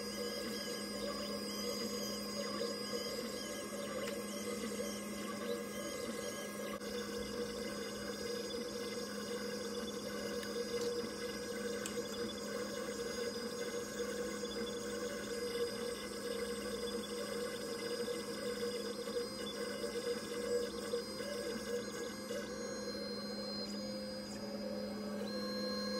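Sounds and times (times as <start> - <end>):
mill spindle whine: 0.0 - 25.9.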